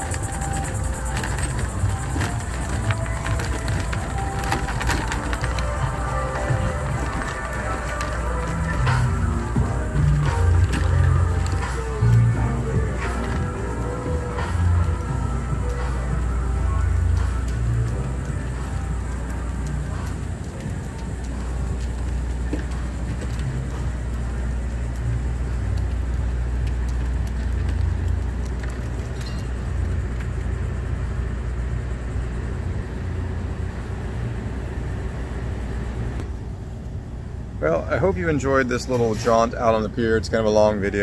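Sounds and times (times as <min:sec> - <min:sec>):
car traffic: 0:00.0 - 0:41.0
scooter low rumble: 0:00.0 - 0:41.0.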